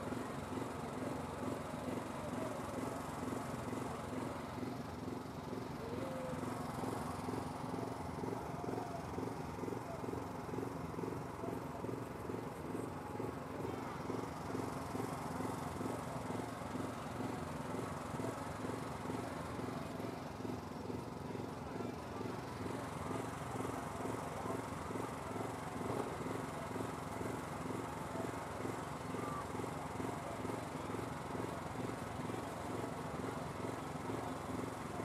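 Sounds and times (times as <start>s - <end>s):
engine running steadily: 0.0s - 35.0s.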